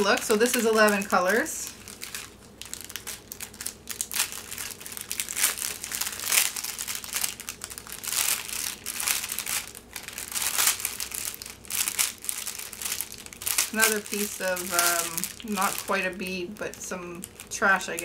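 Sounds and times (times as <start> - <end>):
plastic bags crinkling: 0.0 - 18.0.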